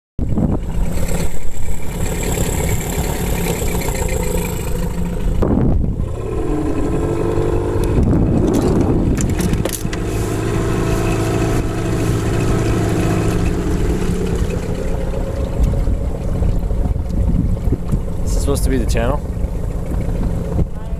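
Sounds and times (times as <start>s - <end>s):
outboard motor running: 0.2s - 20.9s.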